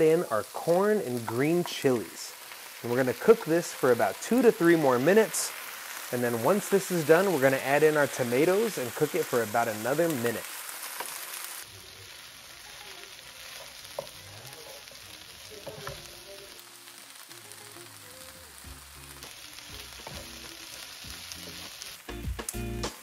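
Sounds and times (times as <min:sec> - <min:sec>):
vegetables sizzling in frying pan: 0:00.0 - 0:23.0.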